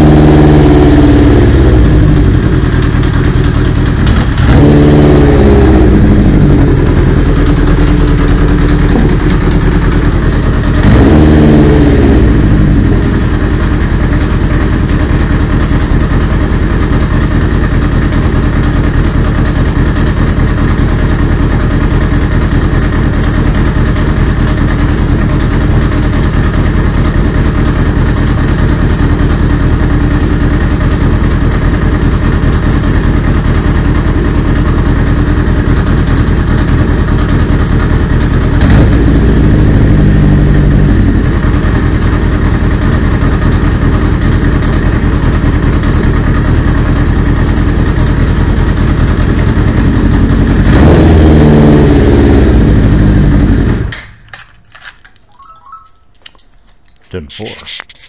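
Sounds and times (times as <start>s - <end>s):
motorcycle engine idling: 0.0s - 57.2s.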